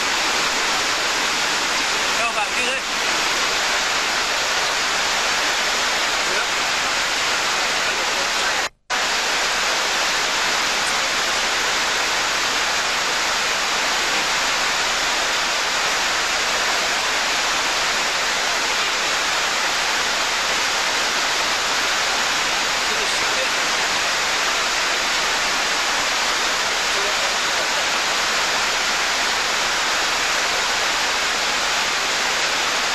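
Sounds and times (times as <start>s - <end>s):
water rushing over a weir: 0.0s - 32.9s.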